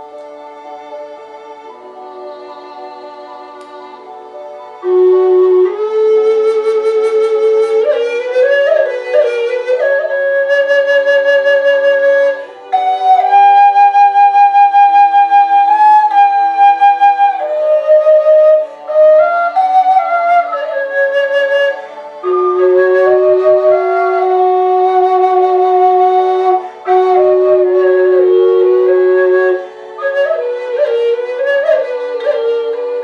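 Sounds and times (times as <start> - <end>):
wooden drone flute melody: 0.0 - 33.0.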